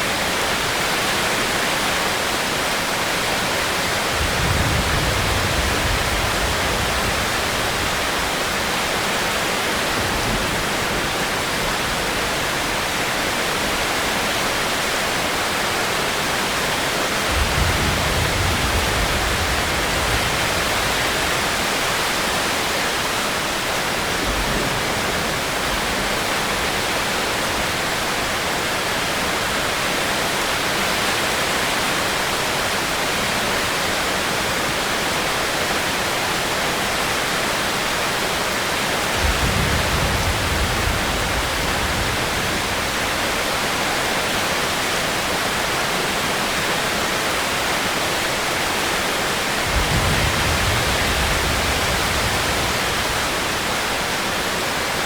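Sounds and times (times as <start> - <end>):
rain hiss: 0.0 - 55.0.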